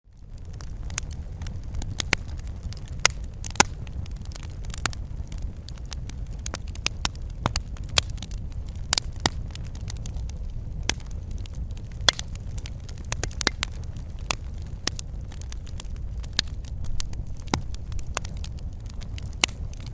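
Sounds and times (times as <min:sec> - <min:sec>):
low rumble of burning: 0:00.0 - 0:19.9
wood fire crackling and popping: 0:00.1 - 0:19.9.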